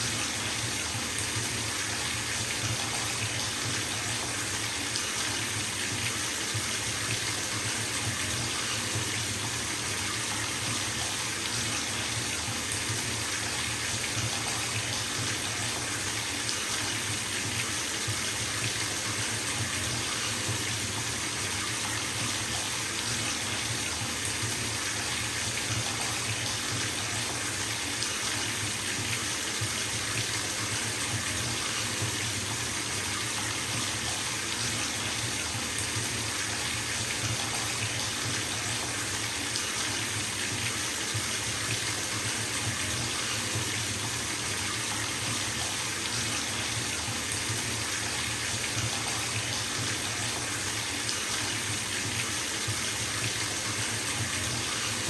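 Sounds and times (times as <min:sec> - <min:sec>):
tap water pouring into bathtub: 0:00.0 - 0:55.0.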